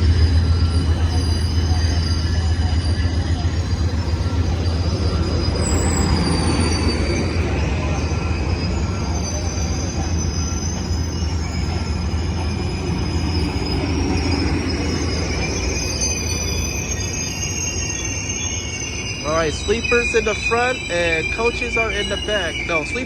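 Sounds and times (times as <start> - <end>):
train cars rolling past: 0.0 - 23.0
wheel squeals: 0.0 - 23.0.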